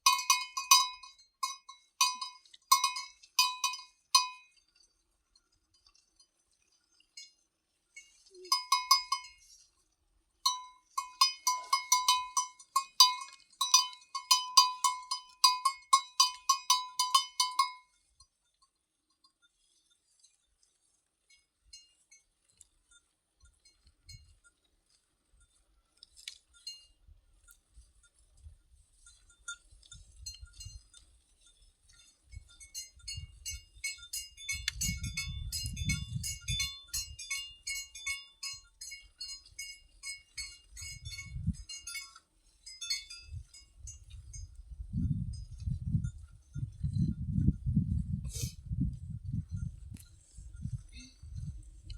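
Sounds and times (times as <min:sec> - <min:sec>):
cowbells clinking: 0:00.0 - 0:04.8, 0:05.7 - 0:09.8, 0:10.4 - 0:20.2, 0:21.2 - 0:24.7, 0:25.3 - 0:51.9.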